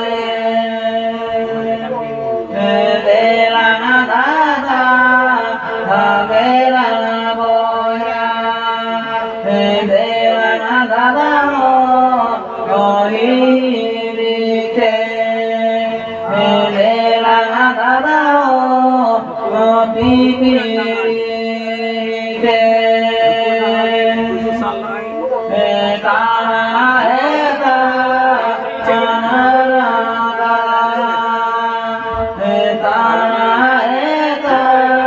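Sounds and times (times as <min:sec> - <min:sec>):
steady drone: 0:00.0 - 0:35.0.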